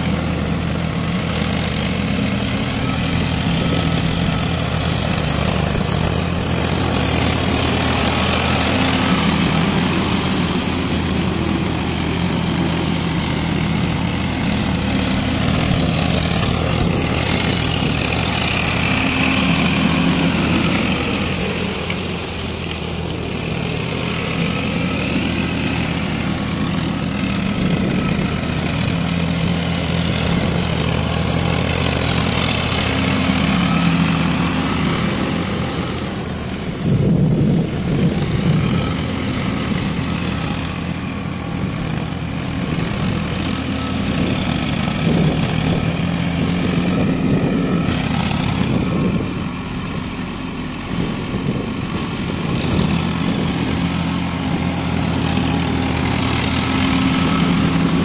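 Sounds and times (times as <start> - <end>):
mud churning: 0.0 - 58.0
tractor diesel engine under load: 0.0 - 58.0.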